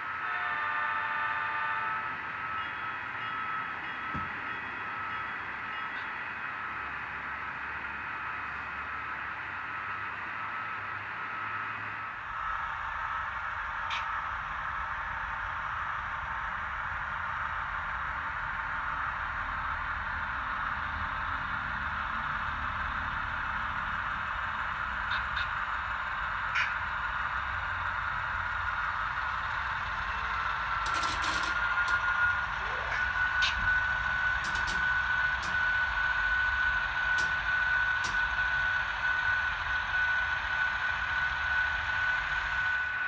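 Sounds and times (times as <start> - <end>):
model train drone with whining: 0.0 - 43.0.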